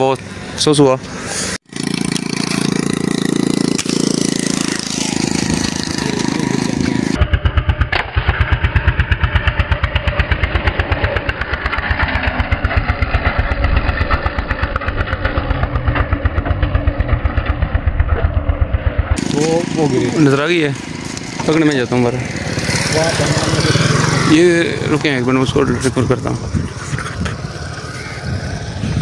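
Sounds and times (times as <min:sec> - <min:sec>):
motorcycle engine running: 0:01.7 - 0:29.0.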